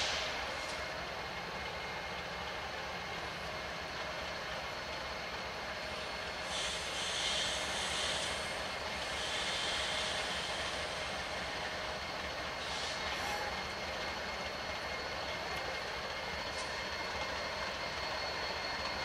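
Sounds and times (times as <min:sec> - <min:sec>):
diesel locomotive engine rumble: 0:00.0 - 0:19.0
wheels squealing on rails: 0:00.0 - 0:19.0.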